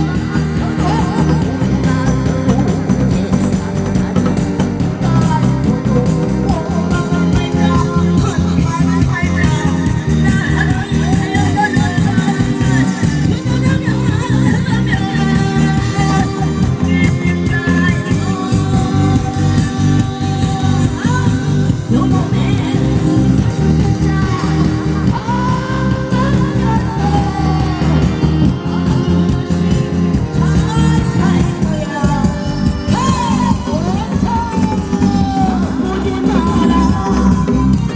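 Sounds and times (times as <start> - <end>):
loud musical accompaniment: 0.0 - 37.9
steady drum beat: 0.0 - 37.9
woman singing: 0.0 - 37.9.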